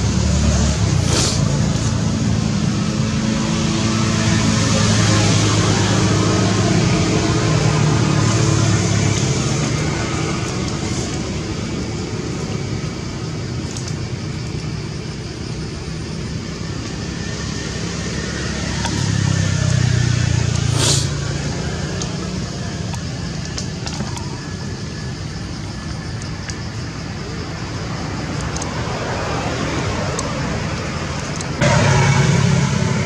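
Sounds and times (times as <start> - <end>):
engine low hum: 0.0 - 33.0
road traffic noise: 0.0 - 33.0.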